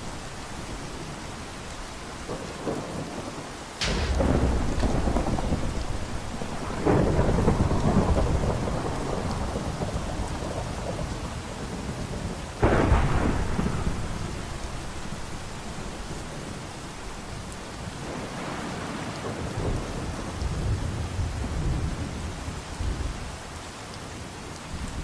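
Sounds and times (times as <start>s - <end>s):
thunder crack and rumble: 0.0s - 23.3s
steady rain: 0.0s - 25.0s.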